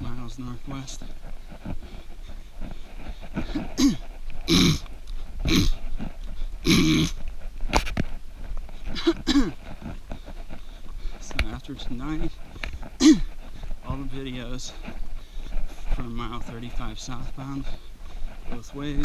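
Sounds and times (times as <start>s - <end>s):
runner breathing hard: 0.0s - 19.0s.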